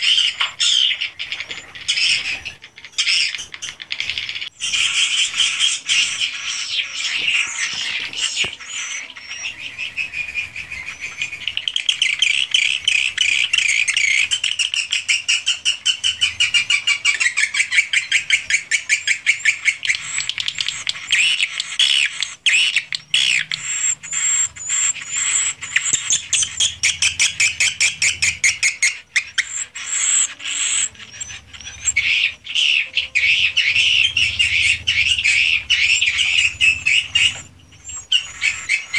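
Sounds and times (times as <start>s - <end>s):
swiftlets chattering and chirping: 0.0s - 38.9s.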